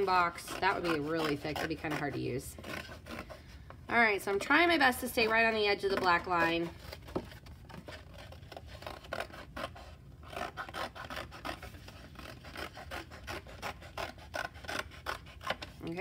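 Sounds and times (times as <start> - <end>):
scissors cutting cardboard: 0.0 - 3.4, 4.4 - 16.0.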